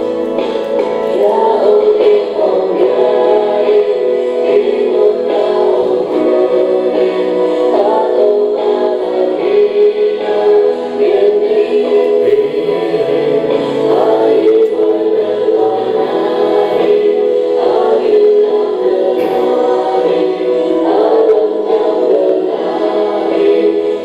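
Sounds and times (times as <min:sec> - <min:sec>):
singers holding notes in harmony: 0:00.0 - 0:24.0.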